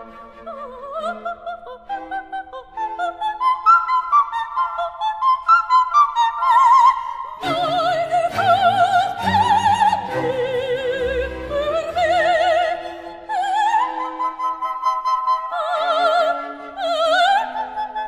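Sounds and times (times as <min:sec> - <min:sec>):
operatic classical music: 0:00.0 - 0:18.0.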